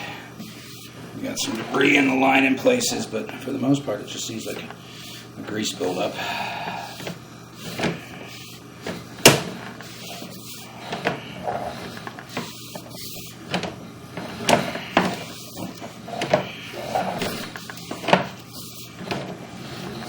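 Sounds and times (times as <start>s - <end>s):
knocks clunks and scrapes of cable reel: 0.4s - 20.0s.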